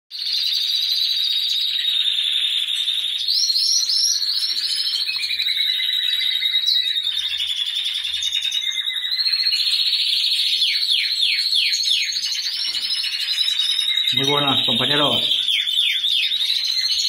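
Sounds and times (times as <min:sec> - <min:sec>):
finches trilling in chorus: 0:00.2 - 0:17.0.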